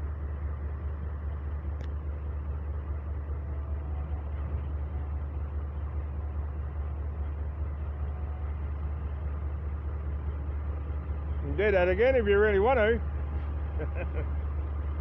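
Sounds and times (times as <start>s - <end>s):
diesel locomotives idling: 0.0s - 15.0s.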